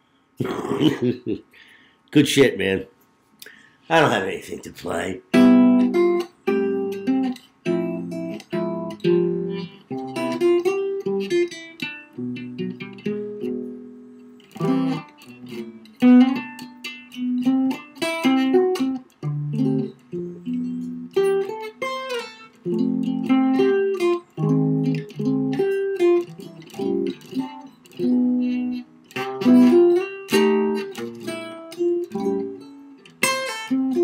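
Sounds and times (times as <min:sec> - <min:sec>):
solo jazz guitar: 0:05.0 - 0:34.0.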